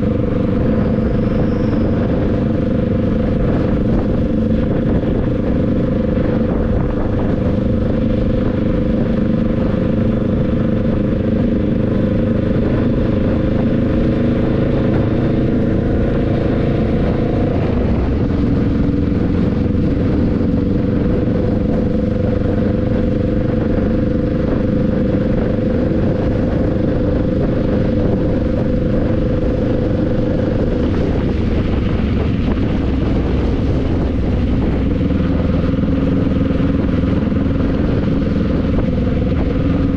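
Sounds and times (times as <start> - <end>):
motorbike engine running: 0.0 - 39.9
road noise: 0.0 - 39.9.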